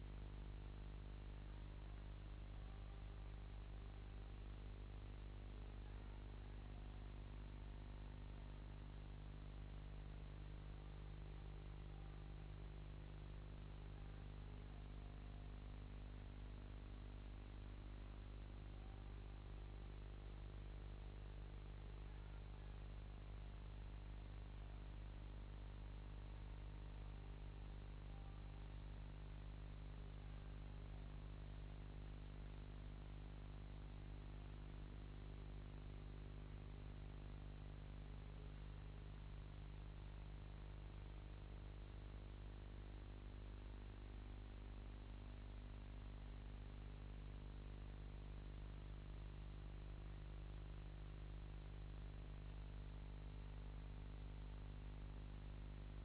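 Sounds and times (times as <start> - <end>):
electrical hum and hiss: 0.0 - 56.0.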